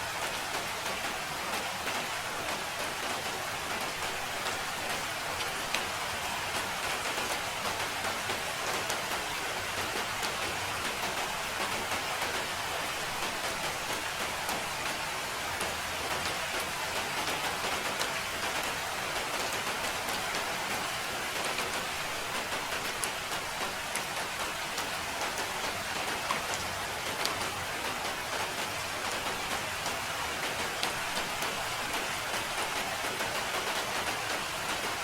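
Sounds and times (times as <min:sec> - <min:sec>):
rain pattering on surfaces: 0:00.0 - 0:35.0.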